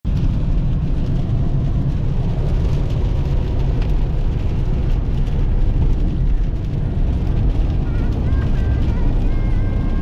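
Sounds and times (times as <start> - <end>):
steady low rumble: 0.1 - 10.0.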